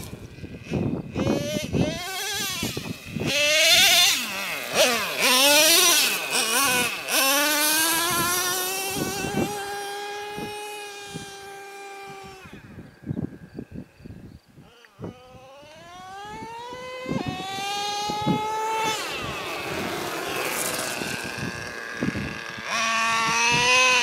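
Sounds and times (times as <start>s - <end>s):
rc truck engine revving: 0.0s - 13.9s, 14.6s - 24.0s.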